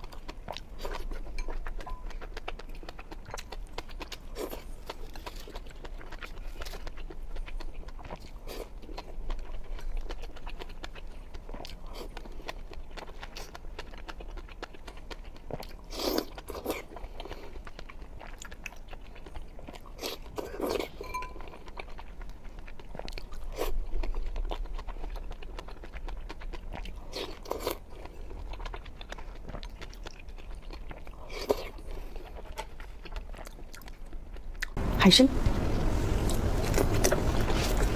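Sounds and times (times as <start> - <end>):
chewing and crunching food: 0.0 - 37.9.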